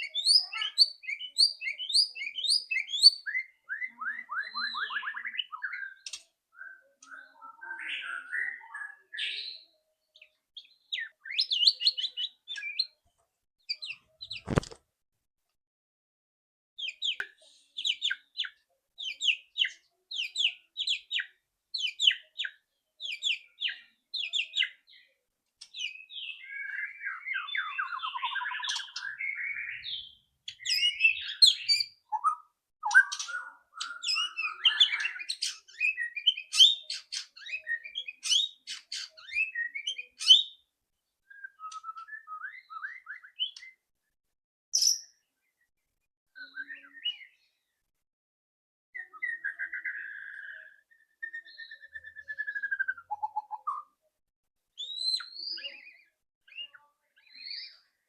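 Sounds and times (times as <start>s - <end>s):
bird calling and singing: 0.0s - 13.0s, 13.7s - 14.8s, 16.8s - 43.8s, 44.8s - 45.6s, 46.4s - 47.7s, 49.0s - 54.0s, 54.8s - 58.0s.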